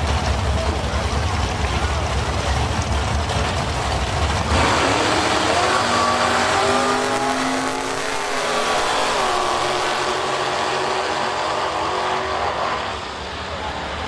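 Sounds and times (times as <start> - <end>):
drag racing car accelerating: 0.0 - 14.0.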